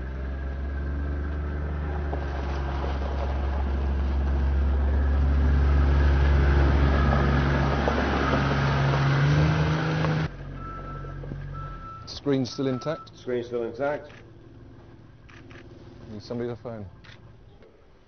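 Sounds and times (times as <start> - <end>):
diesel engine running: 0.0 - 17.6.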